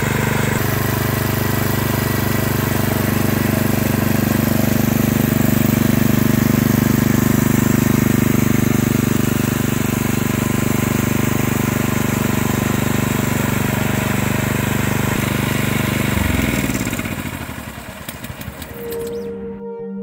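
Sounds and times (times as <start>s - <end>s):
tiller engine running and winding down: 0.0s - 19.6s.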